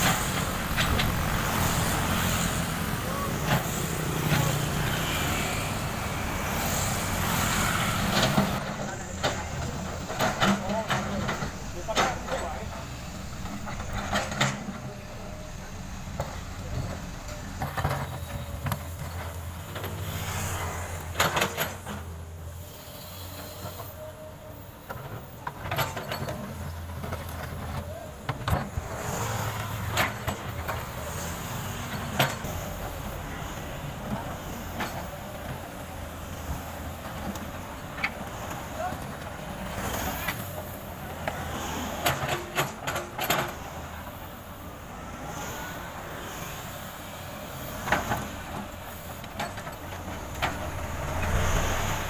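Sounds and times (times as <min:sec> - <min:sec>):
excavator diesel engine: 0:00.0 - 0:52.0.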